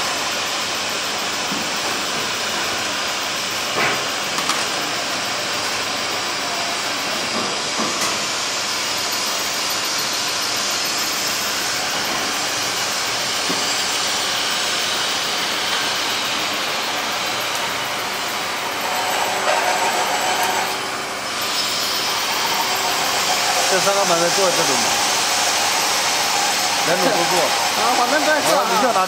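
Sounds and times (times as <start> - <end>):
factory machinery hissing: 0.0 - 29.0.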